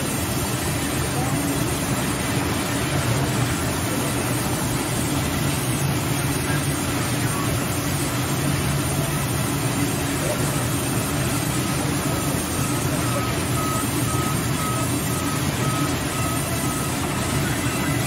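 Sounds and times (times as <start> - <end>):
sawmill machine droning: 0.0 - 18.0.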